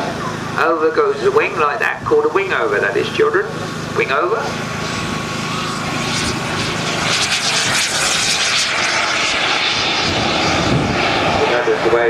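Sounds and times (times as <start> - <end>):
model aeroplane engine: 0.0 - 12.0.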